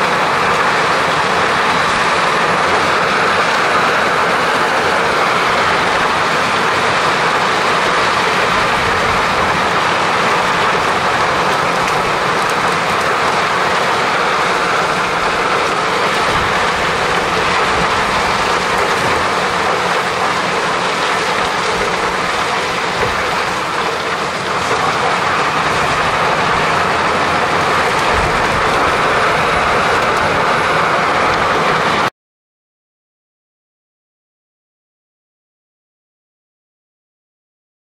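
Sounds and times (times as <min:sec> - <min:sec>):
diesel machinery running: 0:00.0 - 0:32.1.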